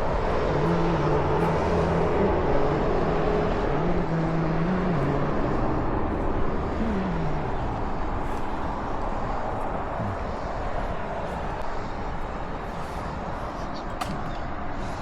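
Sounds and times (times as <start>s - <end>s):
steady rush of noise: 0.0s - 15.0s
vehicle engine running: 0.0s - 15.0s.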